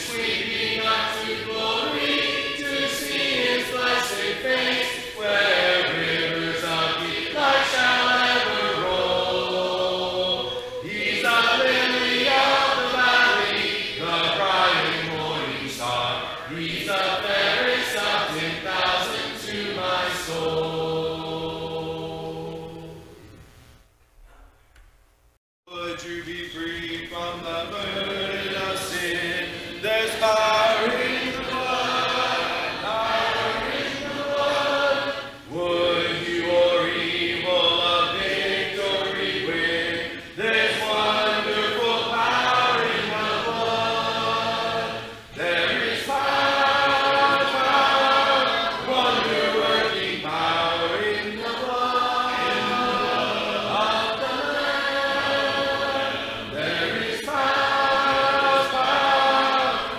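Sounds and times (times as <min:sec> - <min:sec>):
congregation singing a hymn: 0:00.0 - 0:23.3, 0:25.7 - 0:59.9.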